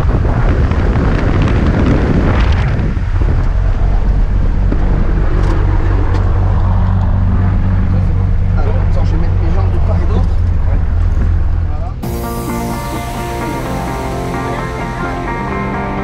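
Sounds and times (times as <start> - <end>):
propeller plane engine drone: 2.4 - 16.0.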